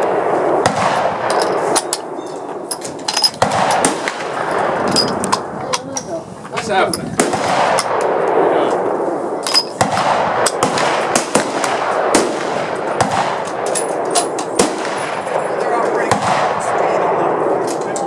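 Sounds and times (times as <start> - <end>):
rifle shots: 0.0 - 2.2, 3.1 - 5.6, 7.1 - 17.6
steady background noise: 0.0 - 18.0.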